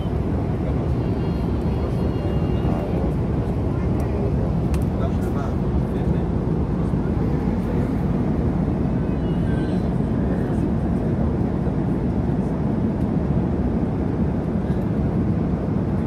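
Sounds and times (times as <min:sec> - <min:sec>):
jet airliner cabin drone: 0:00.0 - 0:16.0.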